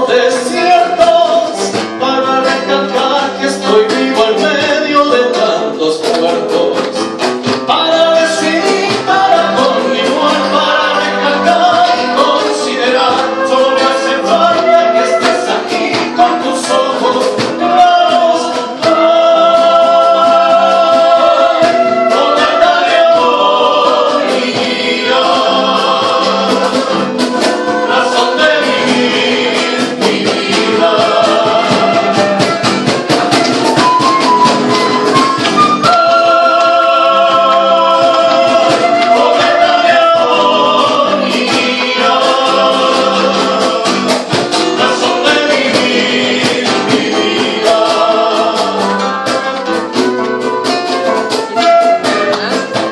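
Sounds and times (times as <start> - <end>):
group of people singing: 0.0 - 52.9
instrumental accompaniment: 0.0 - 52.9.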